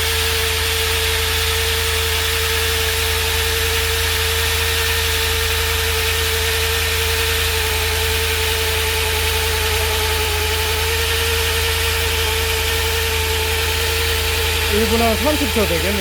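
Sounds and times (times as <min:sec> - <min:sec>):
core drill boring concrete: 0:00.0 - 0:16.0.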